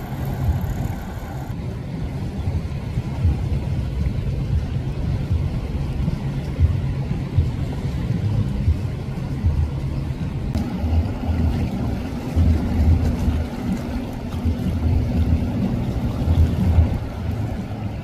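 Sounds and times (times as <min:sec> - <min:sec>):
boat engine rumbling: 0:00.0 - 0:18.0
bow wave wash: 0:00.0 - 0:18.0.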